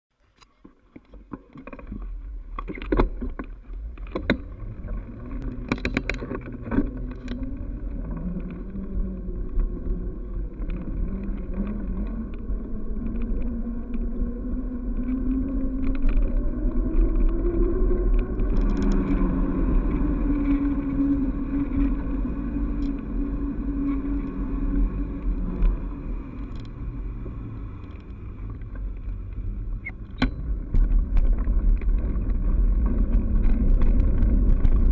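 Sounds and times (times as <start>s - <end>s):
bike tyres on road: 0.1s - 34.9s
wind on microphone: 2.2s - 34.9s.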